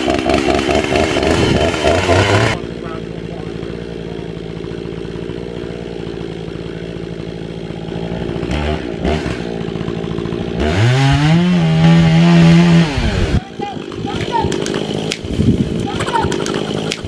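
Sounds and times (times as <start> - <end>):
chainsaw idling and revving: 0.0 - 17.0.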